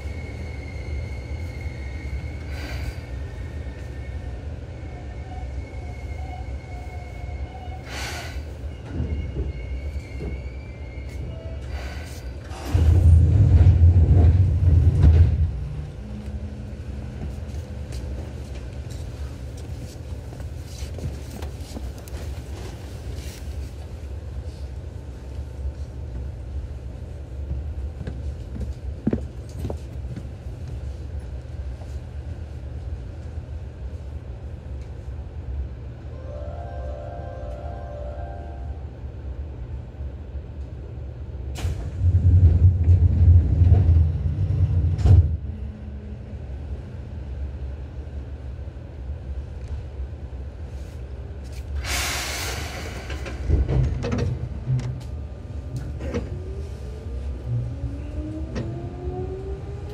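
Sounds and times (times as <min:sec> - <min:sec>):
train wheels rumbling: 0:00.0 - 0:35.6, 0:39.4 - 0:59.9.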